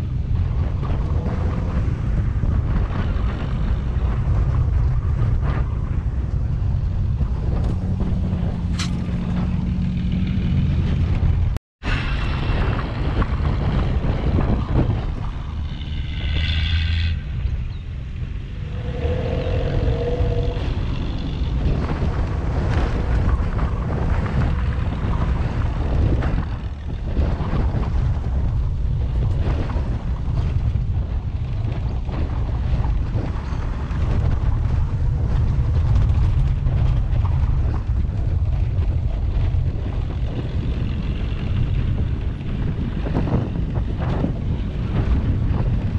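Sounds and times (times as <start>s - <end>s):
engine and tyres rumbling: 0.0s - 45.9s
wind rushing over camera: 0.0s - 45.9s.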